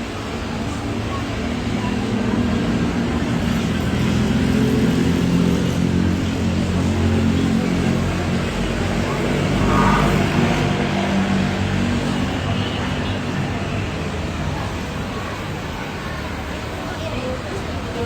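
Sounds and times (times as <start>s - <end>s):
airport engine drone: 0.0s - 18.0s.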